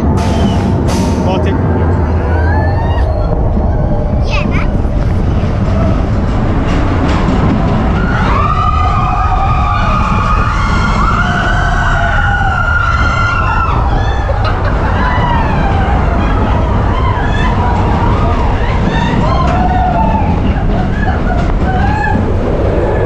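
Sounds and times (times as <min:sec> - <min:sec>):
coaster train rumbling on track: 0:00.0 - 0:23.0
wind buffeting microphone: 0:00.0 - 0:23.0.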